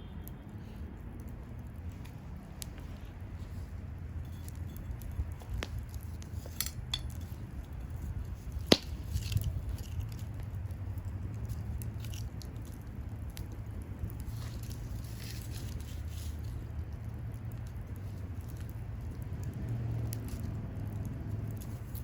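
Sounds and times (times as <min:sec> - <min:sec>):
low rumble of flames: 0:00.0 - 0:22.0
bonfire crackling and popping: 0:00.1 - 0:22.0.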